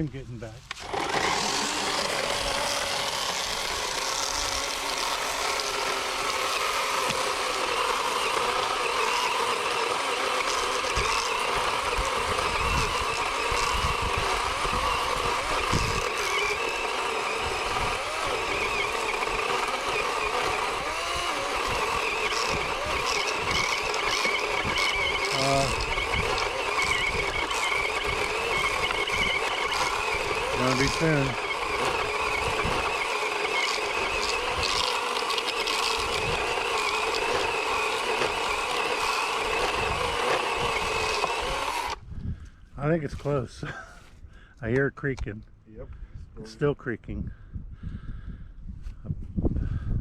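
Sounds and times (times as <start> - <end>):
electric chainsaw cutting wood: 0.7 - 42.0.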